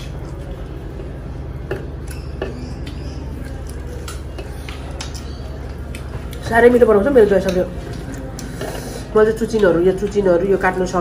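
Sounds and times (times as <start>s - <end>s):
hands mixing food on metal plates: 0.0s - 11.0s
steady low hum: 0.0s - 11.0s.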